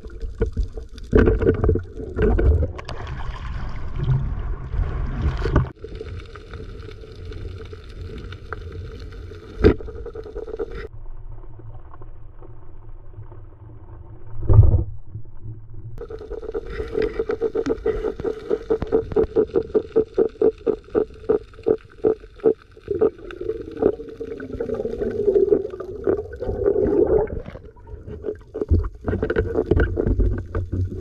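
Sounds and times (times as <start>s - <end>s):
muffled underwater water rushing: 0.0s - 31.0s.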